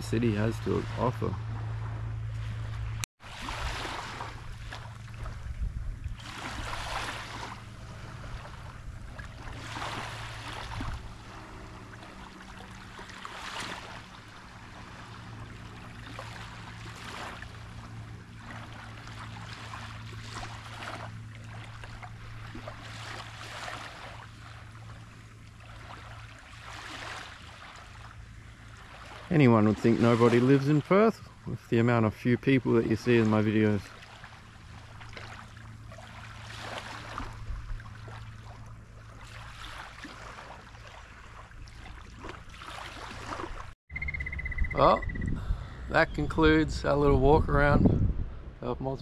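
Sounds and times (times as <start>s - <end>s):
small waves washing onto shore: 0.0s - 43.8s
steady low hum: 0.0s - 49.0s.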